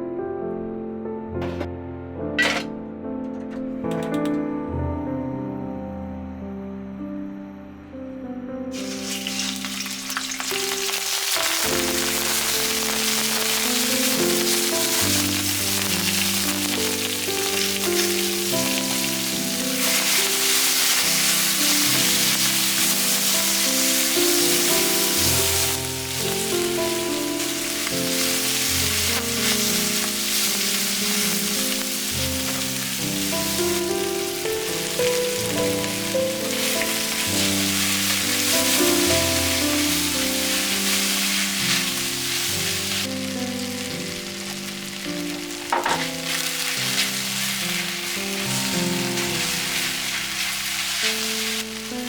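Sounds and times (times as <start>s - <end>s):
background music: 0.0s - 52.0s
food sizzling in a frying pan: 8.8s - 52.0s.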